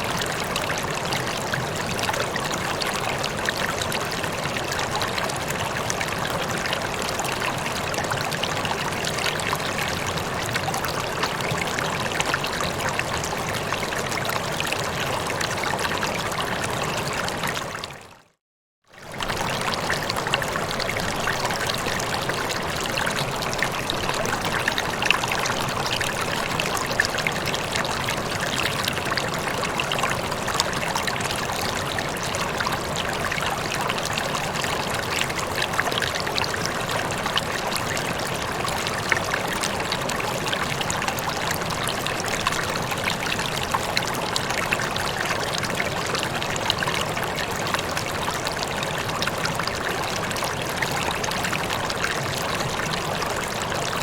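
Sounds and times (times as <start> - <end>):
water rippling and trickling: 0.0 - 54.0.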